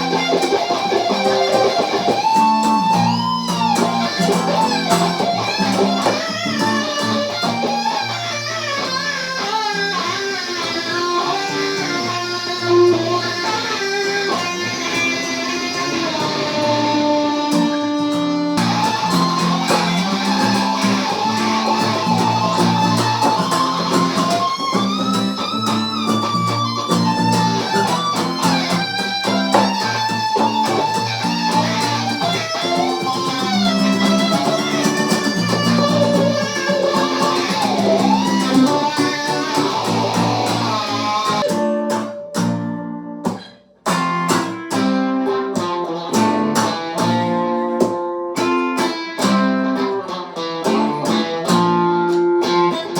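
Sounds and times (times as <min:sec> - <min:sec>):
electric guitar lead melody: 0:00.0 - 0:52.9
repeating rhythm guitar part: 0:00.0 - 0:52.9.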